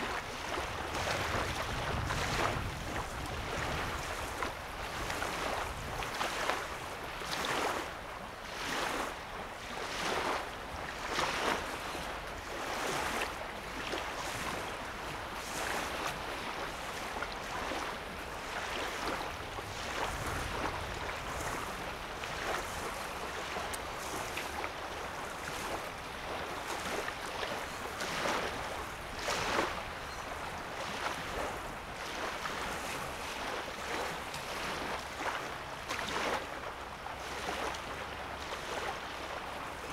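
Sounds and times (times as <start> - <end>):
wavelets lapping at shoreline: 0.0 - 39.9.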